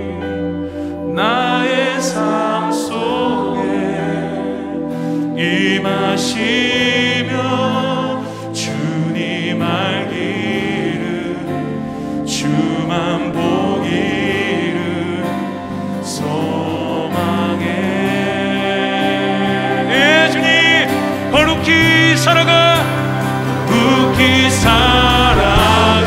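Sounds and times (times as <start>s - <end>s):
worship band playing: 0.0s - 26.0s
people singing a praise song: 1.0s - 26.0s.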